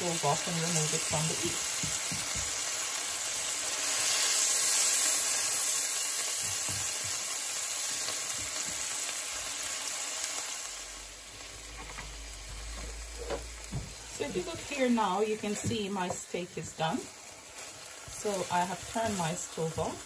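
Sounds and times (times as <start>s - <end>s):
steak sizzling in frying pan: 0.0s - 20.0s.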